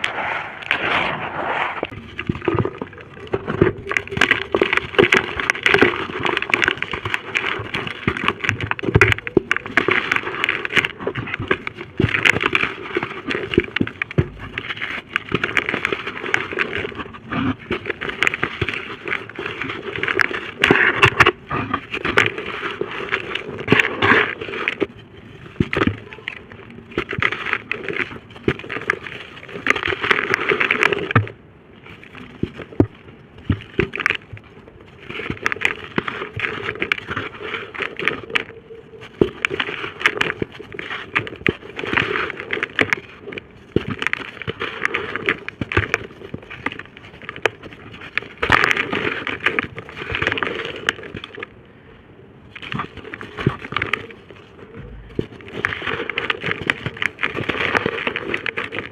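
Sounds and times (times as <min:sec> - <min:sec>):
dry dirt crunching and crumbling: 0:00.0 - 0:58.9.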